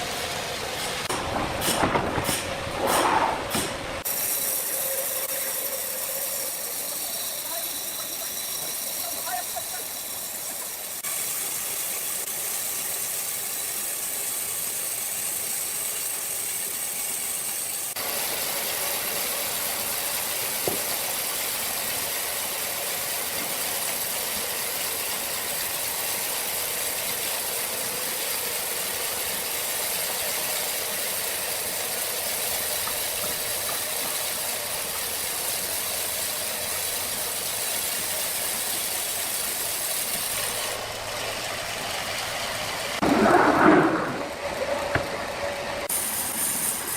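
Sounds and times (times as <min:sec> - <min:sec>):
sawmill machinery hissing: 0:00.0 - 0:46.9.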